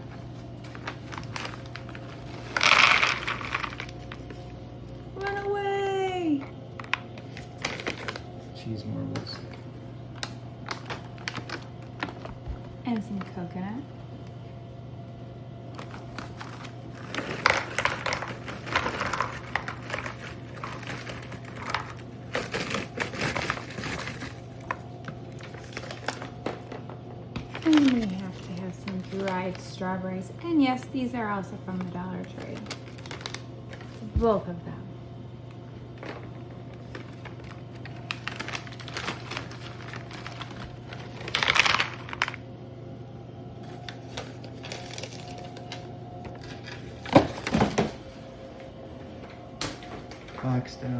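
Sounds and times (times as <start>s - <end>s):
snack packaging crinkling: 0.0s - 5.5s, 6.7s - 13.4s, 15.7s - 29.9s, 30.7s - 34.2s, 35.5s - 42.4s, 43.6s - 47.8s
steady low hum: 0.0s - 50.9s.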